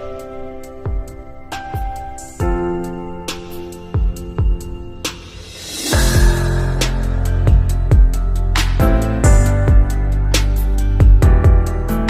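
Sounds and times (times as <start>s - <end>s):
bass and chords: 0.0s - 12.0s
drum beat with cymbals: 0.0s - 12.0s.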